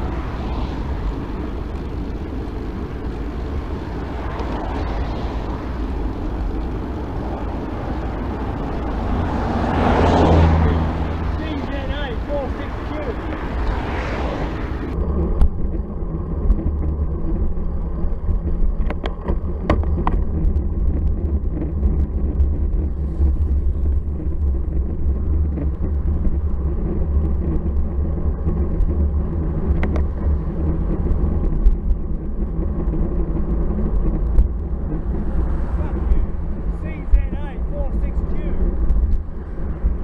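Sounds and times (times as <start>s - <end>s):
wind and road rumble: 0.0s - 40.0s
sharp ticks: 0.8s - 10.4s, 14.8s - 40.0s.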